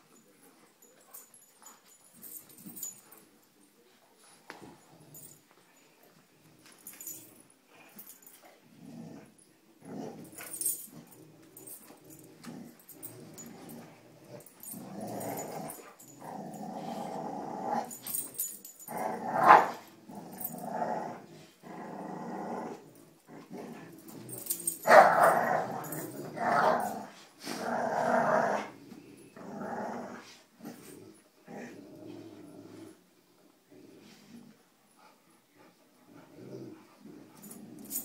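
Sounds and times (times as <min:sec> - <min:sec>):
dogs growling in play: 0:06.6 - 0:38.0.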